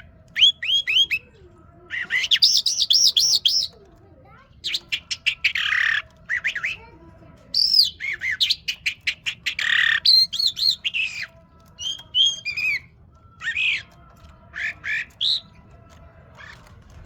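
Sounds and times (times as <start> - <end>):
lark singing: 0.0 - 1.3, 1.9 - 3.8, 4.6 - 6.8, 7.5 - 15.7, 16.3 - 16.6.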